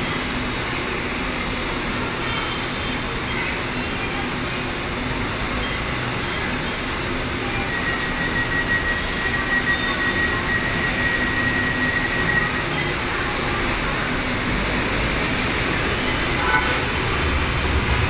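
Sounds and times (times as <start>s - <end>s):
standing train hum: 0.0s - 18.0s.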